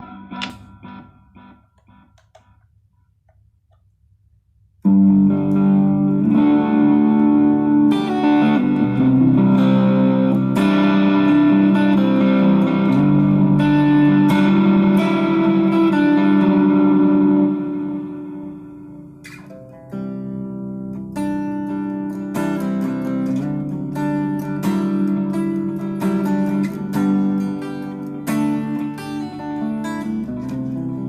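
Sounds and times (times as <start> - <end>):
distorted electric guitar chords: 0.0 - 2.7, 4.8 - 31.0.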